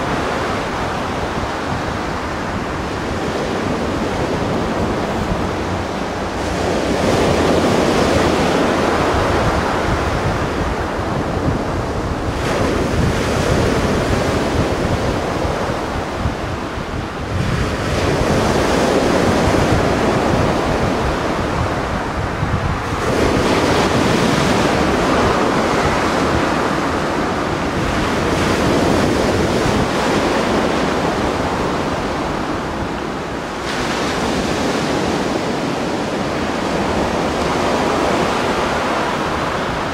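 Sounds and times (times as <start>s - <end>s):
sea waves breaking on shore: 0.0s - 39.9s
wind rumbling on microphone: 0.0s - 39.9s.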